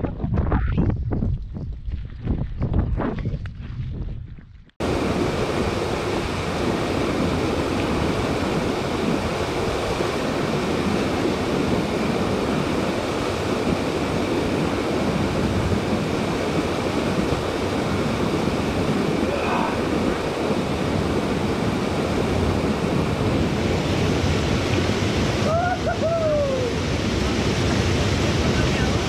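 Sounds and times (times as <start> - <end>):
waterfall rushing: 4.8 - 29.0.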